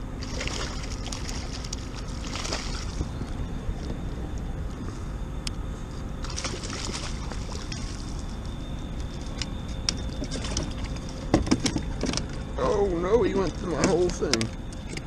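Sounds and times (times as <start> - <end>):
water splashing and sloshing: 0.0 - 4.8, 5.8 - 14.4
wind rumble on microphone: 0.0 - 15.0.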